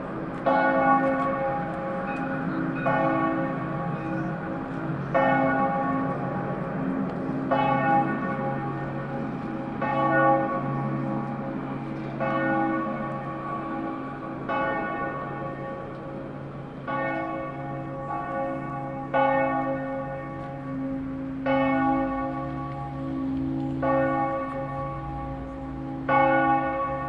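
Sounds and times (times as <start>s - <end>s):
church bells ringing: 0.0s - 27.0s.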